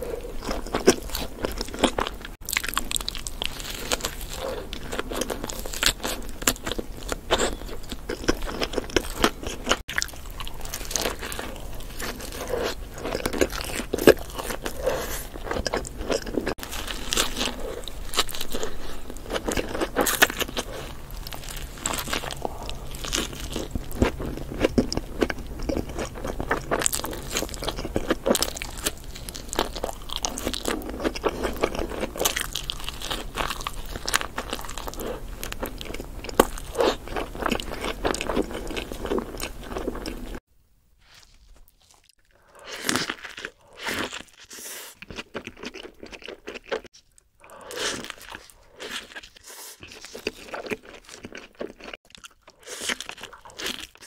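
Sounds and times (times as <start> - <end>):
chewing: 0.0 - 40.4, 41.1 - 54.0
crunchy bites: 0.0 - 40.4, 41.1 - 54.0.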